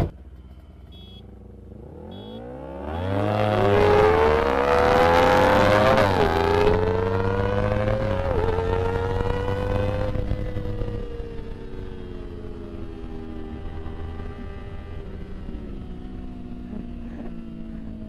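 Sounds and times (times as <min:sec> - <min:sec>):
motorcycle engine revving high: 0:00.9 - 0:18.0.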